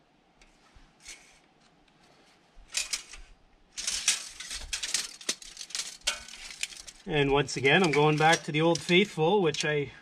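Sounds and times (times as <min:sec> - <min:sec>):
scratchy clicks and rustles: 0:00.4 - 0:09.8.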